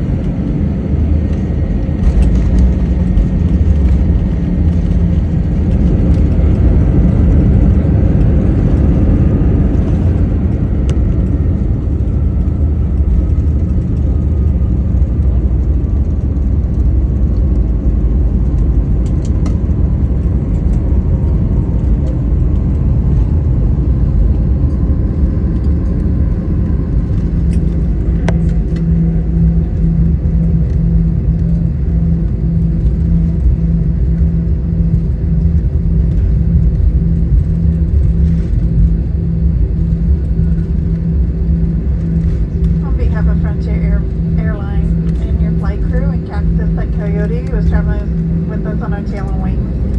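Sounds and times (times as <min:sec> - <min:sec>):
airliner engine rumble: 0:00.0 - 0:49.9
steady low hum: 0:00.0 - 0:49.9.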